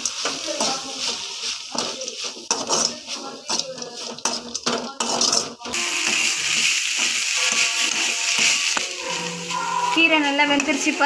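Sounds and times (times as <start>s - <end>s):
frying food sizzling: 0.0s - 11.0s
metal spoon scraping pan: 0.0s - 11.0s.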